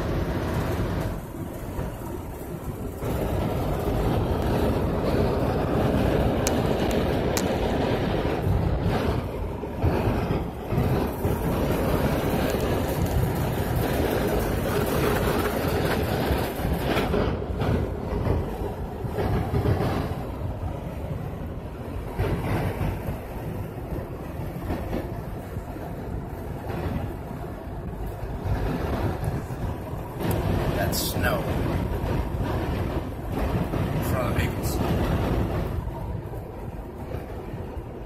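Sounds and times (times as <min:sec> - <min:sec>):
road and wind noise in car cabin: 0:00.0 - 0:38.0.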